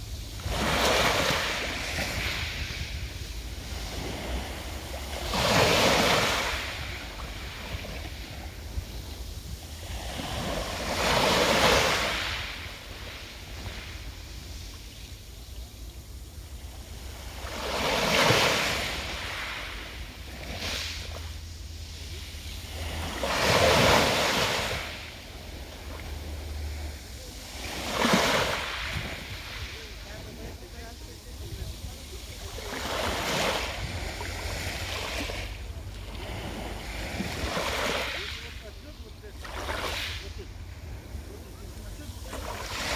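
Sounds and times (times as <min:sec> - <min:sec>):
waves washing onto pebble beach: 0:00.0 - 0:42.9.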